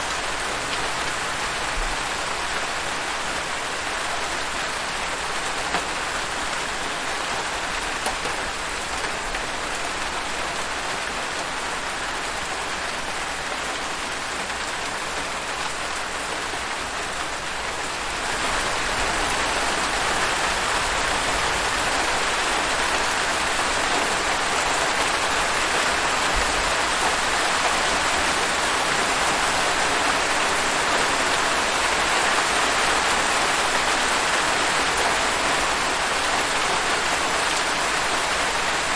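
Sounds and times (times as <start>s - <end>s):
rain pattering on surfaces: 0.0s - 38.9s.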